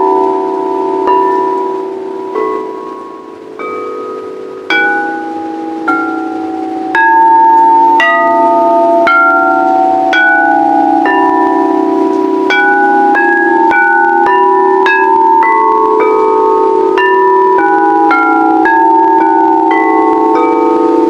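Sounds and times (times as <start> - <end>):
singing bowls struck: 0.0 - 21.0
wavering hum of bowls: 0.0 - 21.0.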